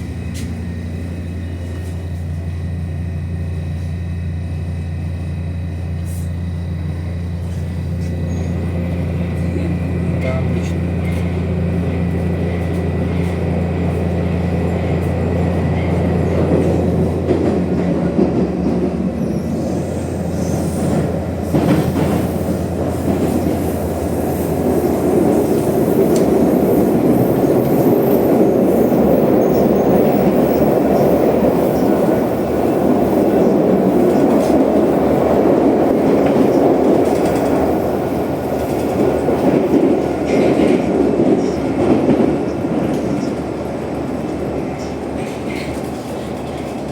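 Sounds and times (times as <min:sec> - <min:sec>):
train low hum: 0:00.0 - 0:46.9
wheels rumbling on rail: 0:00.0 - 0:46.9.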